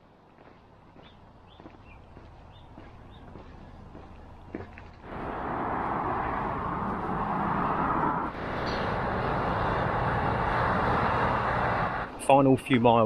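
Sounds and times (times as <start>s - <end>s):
fast traffic tyre noise: 1.2s - 12.6s.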